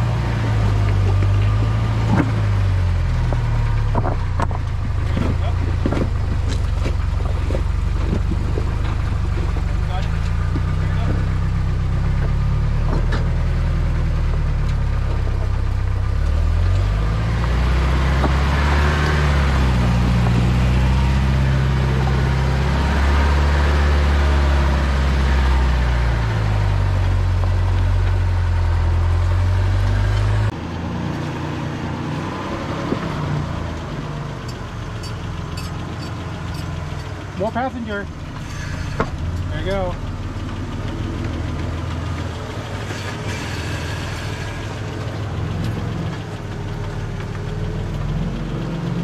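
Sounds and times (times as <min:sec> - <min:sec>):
truck engine idling: 0:00.0 - 0:49.0
truck engine under load: 0:00.0 - 0:49.0.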